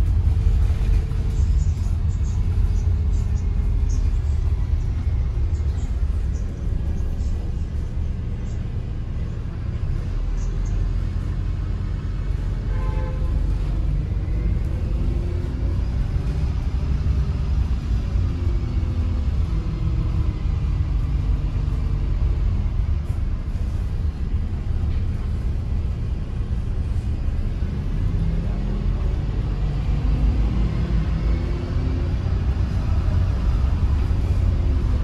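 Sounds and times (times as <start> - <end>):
bus engine rumble: 0.0 - 35.0
road noise: 0.0 - 35.0.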